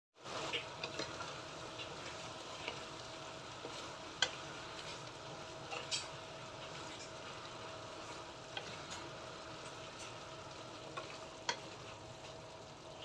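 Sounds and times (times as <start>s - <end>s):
food sizzling in a wok: 0.2s - 13.0s
wooden spatula stirring: 0.2s - 13.0s.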